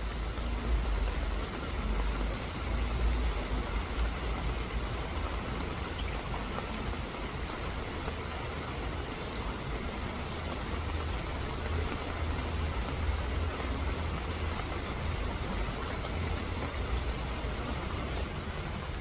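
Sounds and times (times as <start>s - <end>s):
constant low rumble: 0.0s - 19.0s
steady rain hiss: 0.0s - 19.0s.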